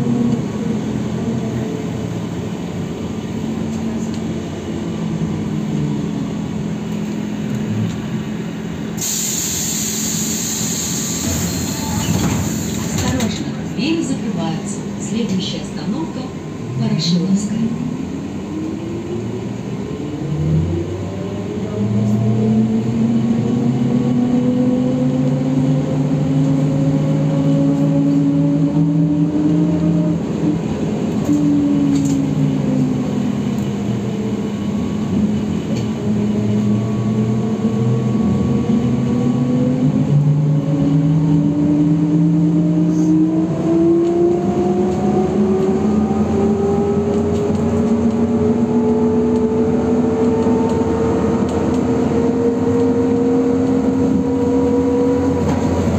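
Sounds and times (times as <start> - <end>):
road noise: 0.0 - 55.9.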